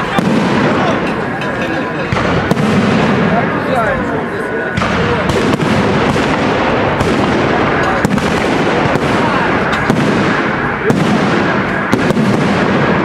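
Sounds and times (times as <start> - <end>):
fireworks bangs: 0.0 - 13.0
fireworks crackling and popping: 0.0 - 13.0.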